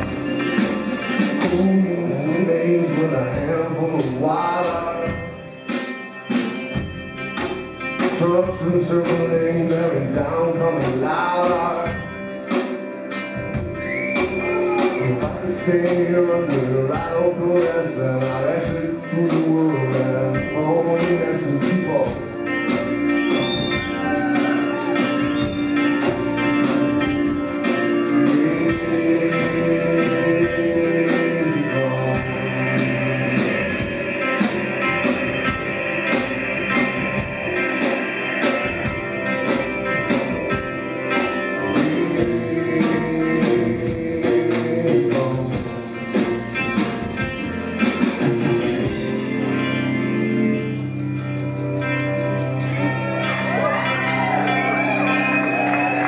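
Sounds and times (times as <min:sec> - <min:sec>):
drum kit: 0:00.0 - 0:56.0
rock band playing: 0:00.0 - 0:56.0.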